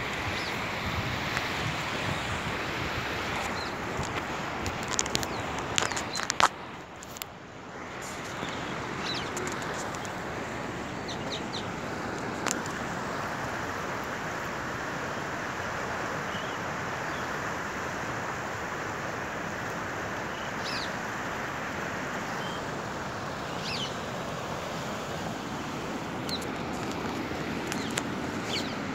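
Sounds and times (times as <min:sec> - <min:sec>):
fast-flowing river rushing: 0:00.0 - 0:28.9.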